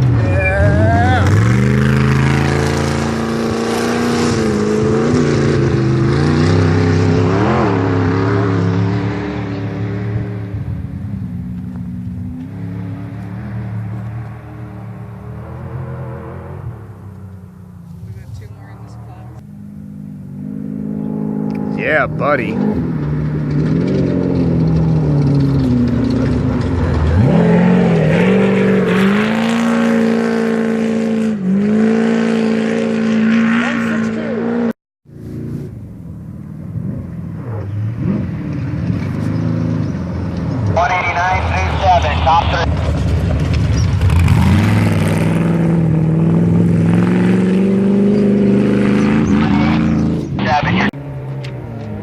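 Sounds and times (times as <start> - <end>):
race vehicle engine revving: 0.0 - 17.4, 18.1 - 35.8, 36.7 - 52.0.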